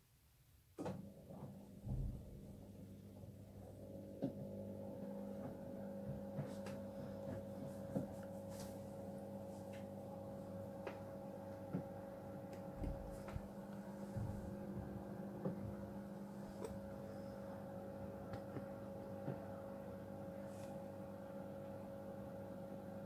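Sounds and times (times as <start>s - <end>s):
washing machine motor hum: 0.8s - 23.0s.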